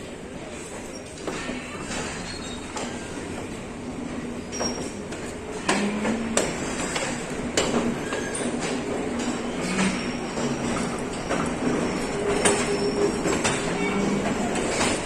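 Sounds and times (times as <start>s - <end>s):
train rumbling on track: 0.0s - 15.0s
train wheels knocking and clacking: 1.1s - 15.0s.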